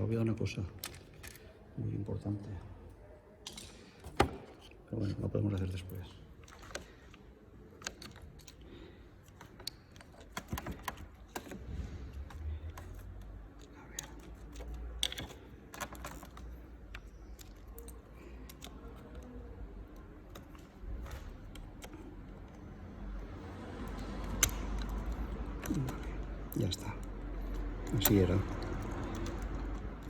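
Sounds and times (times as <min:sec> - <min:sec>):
small clicks and knocks: 0:05.5 - 0:30.0.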